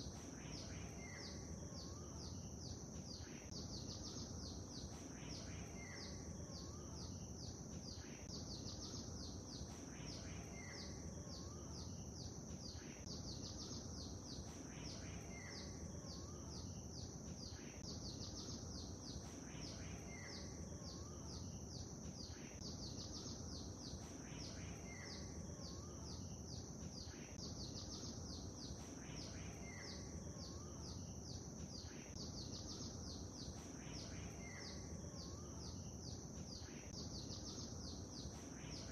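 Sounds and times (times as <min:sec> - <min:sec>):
birds chirping high-pitched: 0:00.0 - 0:38.9.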